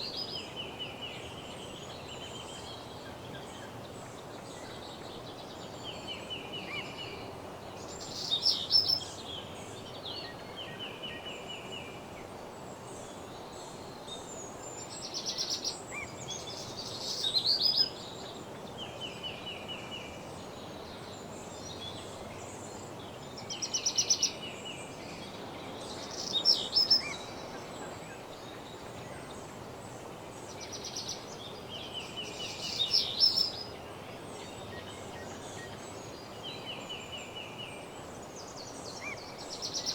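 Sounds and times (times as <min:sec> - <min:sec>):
low background hiss: 0:00.0 - 0:39.9
songbirds singing: 0:00.0 - 0:39.9.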